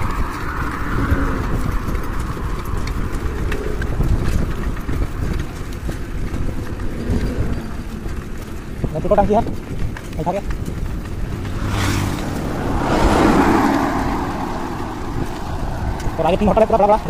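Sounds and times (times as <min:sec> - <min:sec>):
bicycle rolling on asphalt: 0:00.0 - 0:17.0
bike rattles and clicks: 0:00.0 - 0:17.0
wind buffeting microphone: 0:00.0 - 0:17.0.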